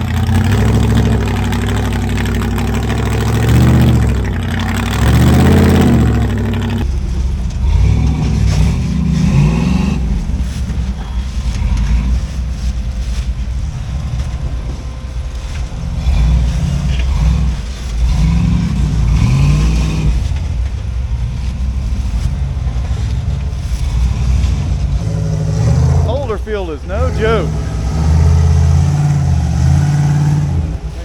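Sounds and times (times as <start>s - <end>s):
engine revving under load: 0.0s - 31.0s.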